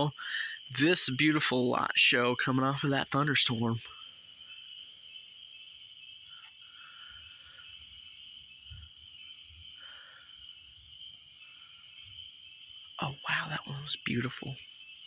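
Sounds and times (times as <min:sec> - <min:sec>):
crickets and night insects chirping: 0:00.0 - 0:15.0.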